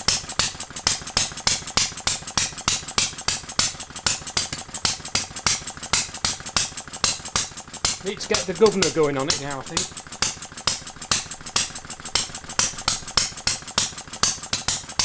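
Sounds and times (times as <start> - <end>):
small engine clattering: 0.0 - 15.0.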